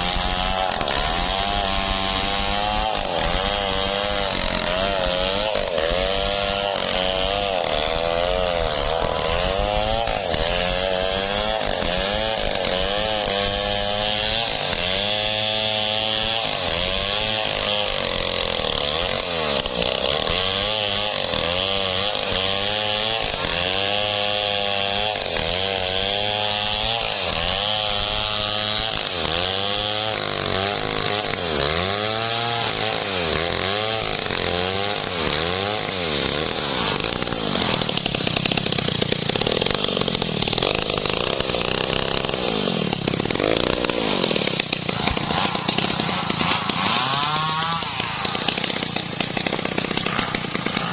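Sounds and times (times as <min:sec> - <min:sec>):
chainsaw running: 0:00.0 - 0:50.9.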